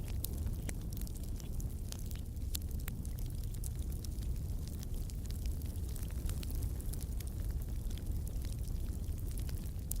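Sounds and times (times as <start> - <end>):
fire roaring: 0.0 - 10.0
firewood crackling and popping: 0.0 - 10.0.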